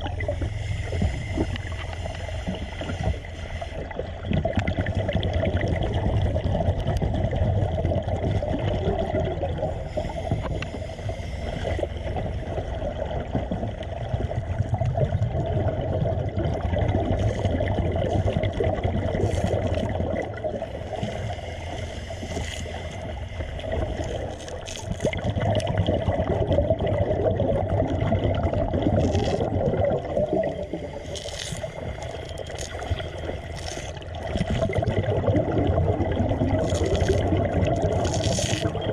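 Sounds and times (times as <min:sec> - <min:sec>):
water gurgling and bubbling: 0:00.0 - 0:38.9.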